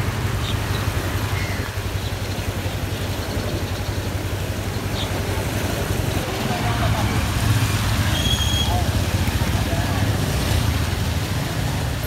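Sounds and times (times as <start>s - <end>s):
floodwater roaring in river: 0.0s - 12.0s.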